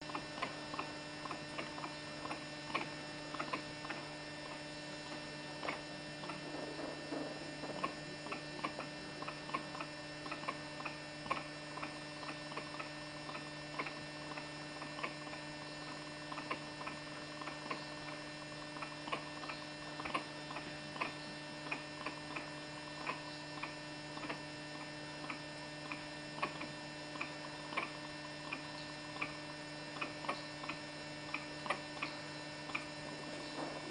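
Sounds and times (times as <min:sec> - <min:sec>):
steady tonal hum: 0:00.0 - 0:33.9
short irregular clicks: 0:00.1 - 0:33.9.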